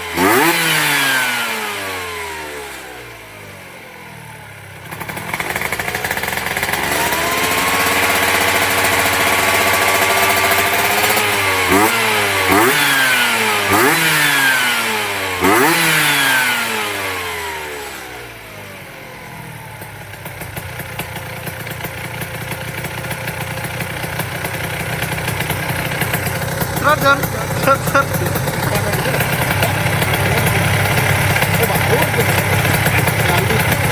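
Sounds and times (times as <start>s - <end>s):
scooter engine revving: 0.0s - 33.9s.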